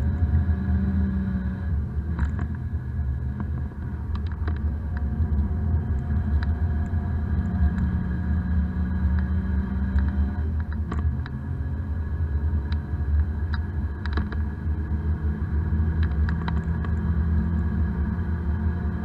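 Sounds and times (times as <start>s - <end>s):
car engine running hard: 0.0s - 19.0s
low road rumble: 0.0s - 19.0s.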